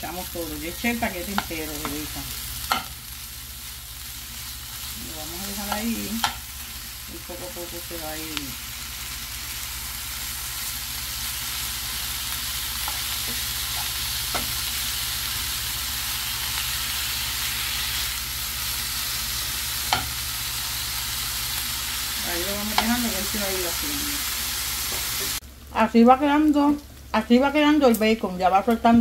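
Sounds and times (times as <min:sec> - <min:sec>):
bacon sizzling in a pan: 0:00.0 - 0:29.0.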